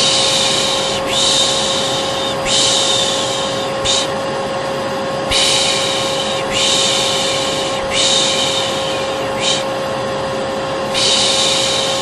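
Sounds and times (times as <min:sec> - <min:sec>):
person shushing: 0:00.0 - 0:04.2, 0:05.3 - 0:09.8, 0:10.9 - 0:12.0
vacuum cleaner hum: 0:00.0 - 0:12.0.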